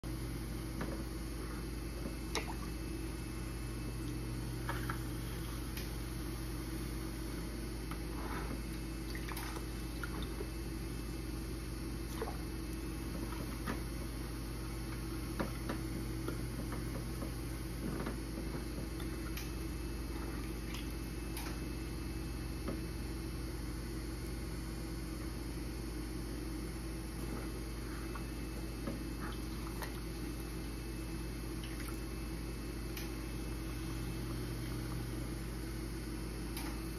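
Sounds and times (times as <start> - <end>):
potter's wheel humming: 0.0 - 36.9.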